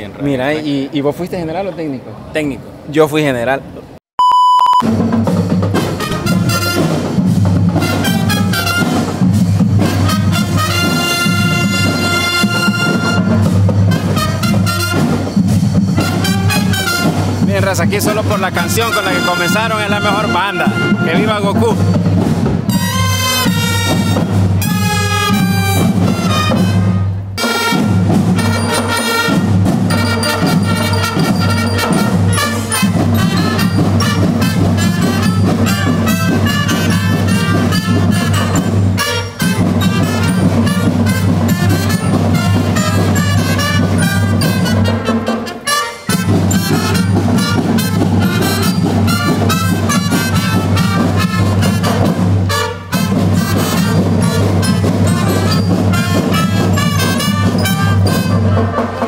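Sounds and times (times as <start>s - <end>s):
marching band playing: 4.8s - 59.0s.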